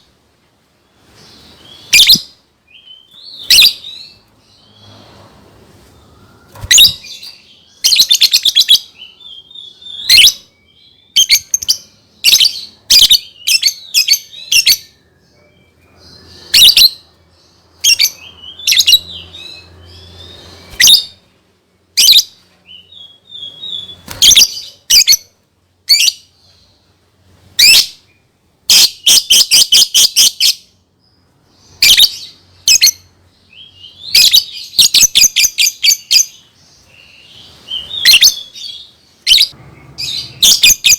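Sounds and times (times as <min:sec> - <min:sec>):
lovebird chirping: 0:00.9 - 0:21.3, 0:22.0 - 0:26.9, 0:27.5 - 0:40.9.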